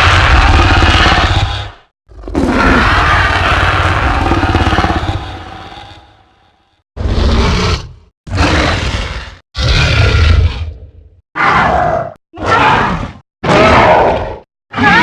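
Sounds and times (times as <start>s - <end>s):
dinosaur roar: 0.0s - 15.0s.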